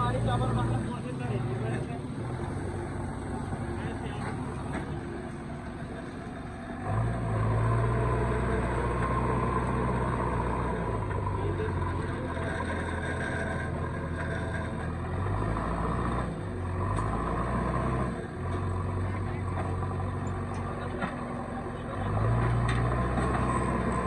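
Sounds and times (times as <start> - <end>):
diesel machinery engine running: 0.0 - 24.0.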